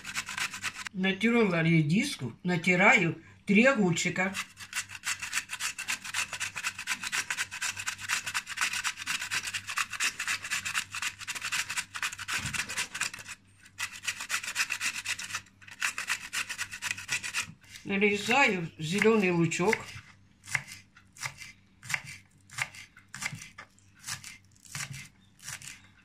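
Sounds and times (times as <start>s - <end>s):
cucumber grated on metal grater: 0.0s - 0.9s, 4.2s - 25.8s.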